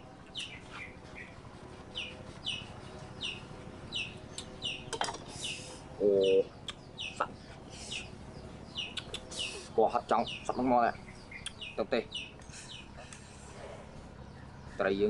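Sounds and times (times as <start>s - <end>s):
small bird chirping: 0.3s - 15.0s.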